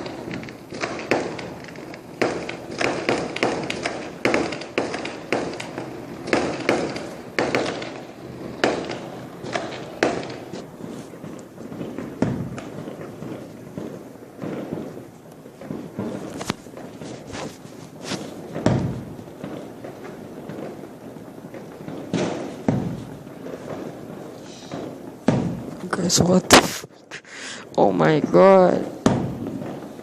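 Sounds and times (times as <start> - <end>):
distant fireworks exploding: 0.0 - 30.0.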